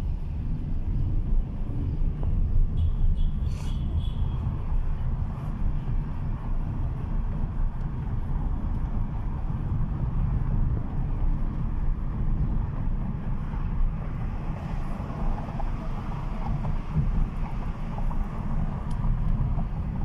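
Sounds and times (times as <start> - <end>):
car interior engine and tyre rumble: 0.0 - 20.0.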